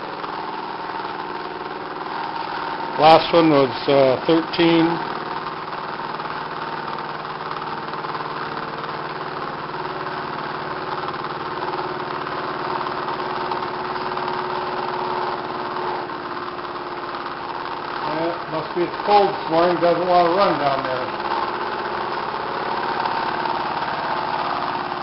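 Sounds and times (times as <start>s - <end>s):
motor humming with whirring hiss: 0.0s - 25.0s.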